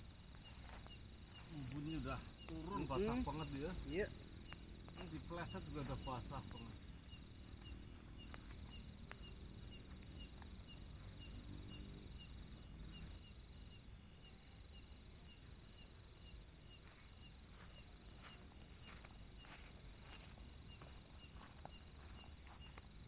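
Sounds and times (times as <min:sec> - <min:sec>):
insect chirping: 0:00.0 - 0:23.0
insect drone: 0:00.0 - 0:23.0.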